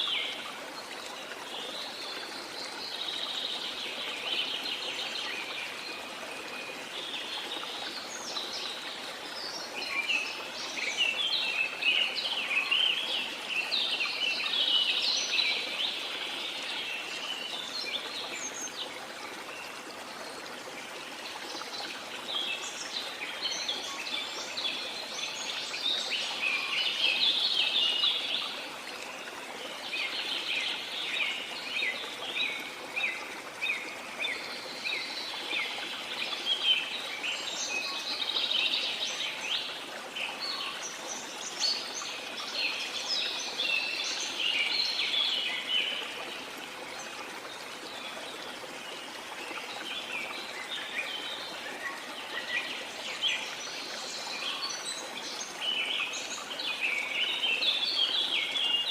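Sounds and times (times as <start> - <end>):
rush of running water: 0.0 - 58.9.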